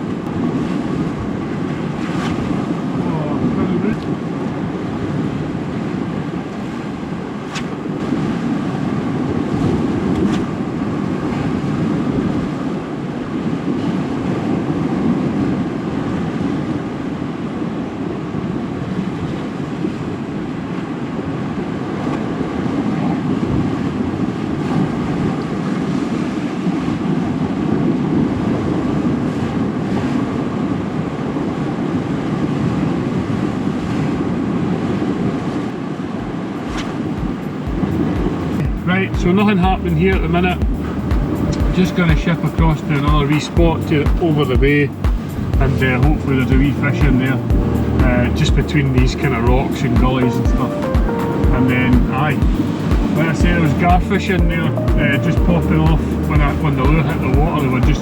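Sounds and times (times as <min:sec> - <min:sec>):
surf washing onto shore: 0:00.0 - 0:58.0
wind rumbling on microphone: 0:00.0 - 0:58.0.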